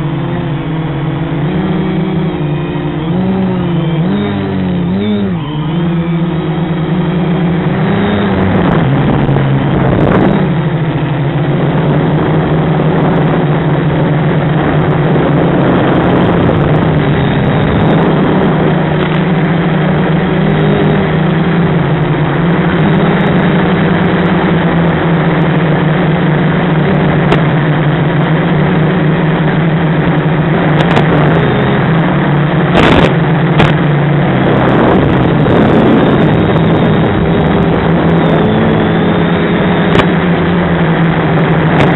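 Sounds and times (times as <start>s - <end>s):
quadcopter motors droning: 0.0s - 41.9s.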